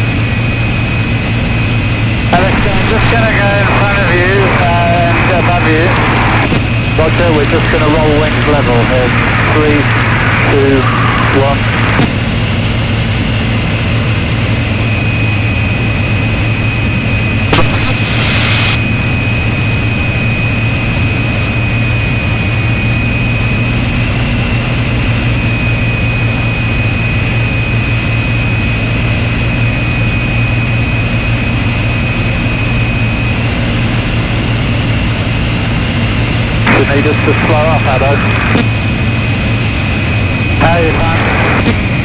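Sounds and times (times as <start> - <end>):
aircraft engine droning: 0.0 - 42.0
thin steady whine: 0.0 - 42.0.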